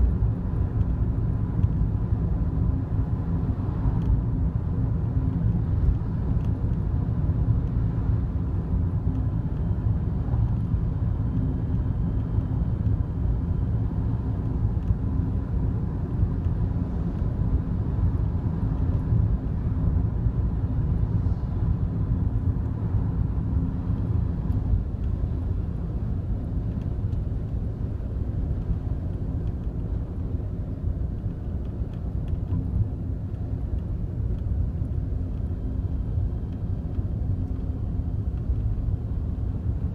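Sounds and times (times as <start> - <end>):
car interior road and engine drone: 0.0 - 39.9.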